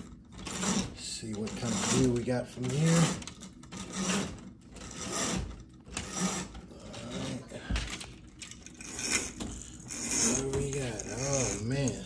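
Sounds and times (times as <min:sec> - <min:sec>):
roller shade rattling and clicking: 0:00.0 - 0:12.0.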